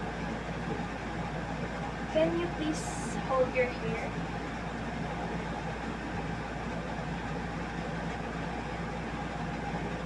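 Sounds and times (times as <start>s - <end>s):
background hum: 0.0s - 10.0s.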